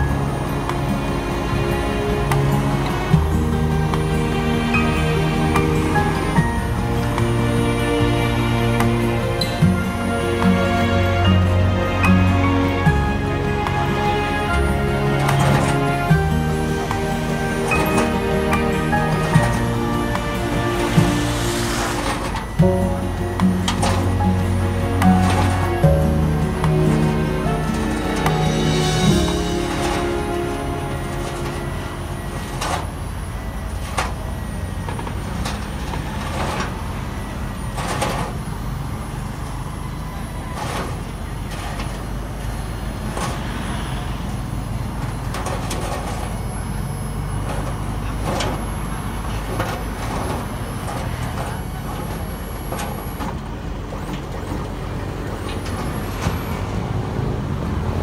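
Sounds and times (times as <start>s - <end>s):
diesel engine low rumble: 0.0s - 58.0s.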